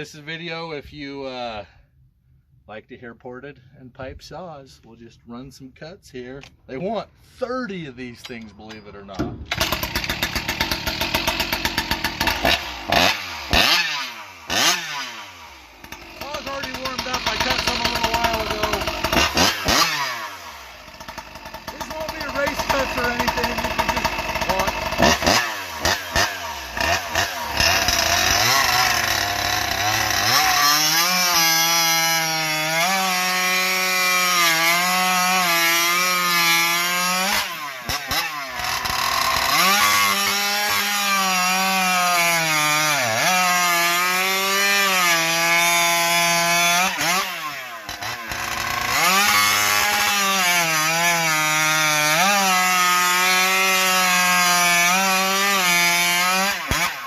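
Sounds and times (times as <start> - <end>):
chainsaw cutting log: 9.2 - 57.0.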